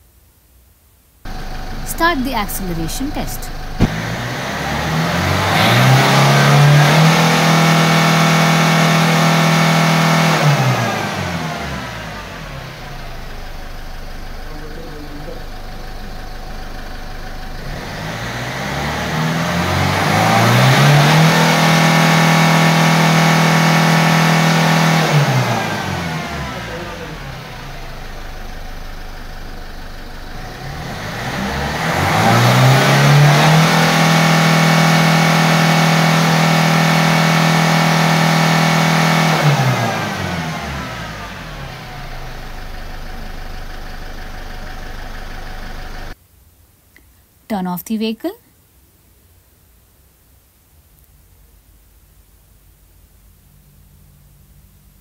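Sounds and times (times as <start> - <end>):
diesel engine revving: 1.3 - 46.2.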